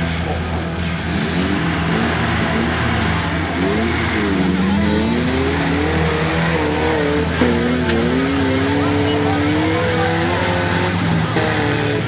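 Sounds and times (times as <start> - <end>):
off-road engine revving: 0.0 - 12.0.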